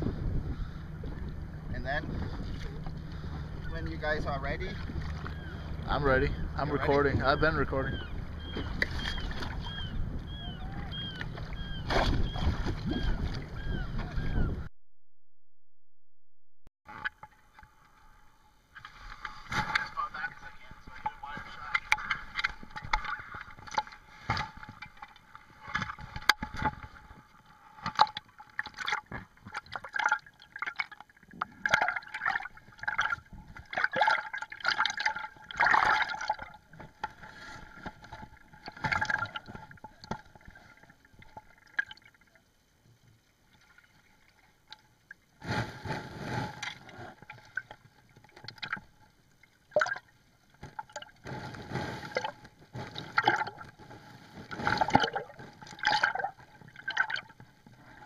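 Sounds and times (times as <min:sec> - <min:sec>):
water sloshing and gurgling: 0:00.0 - 0:14.7, 0:16.9 - 0:58.0.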